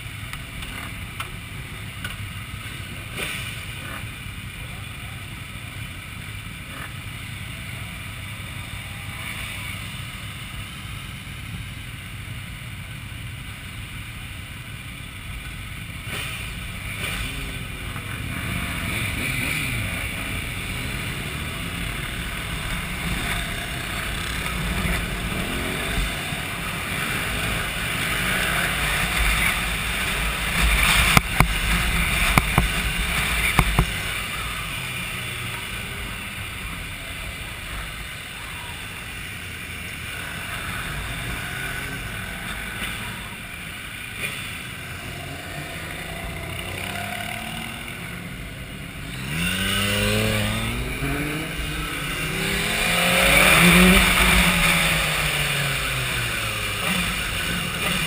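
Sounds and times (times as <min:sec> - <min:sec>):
motorcycle engines idling and revving: 0:00.0 - 0:58.0.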